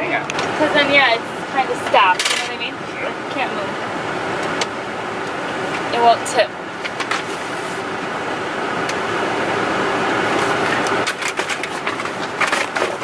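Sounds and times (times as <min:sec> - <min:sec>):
vehicle running hum: 0:00.0 - 0:13.0.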